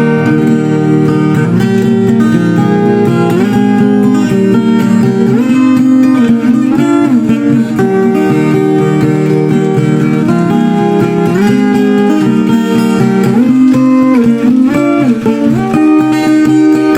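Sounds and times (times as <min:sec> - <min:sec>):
acoustic guitar melody: 0:00.0 - 0:16.9.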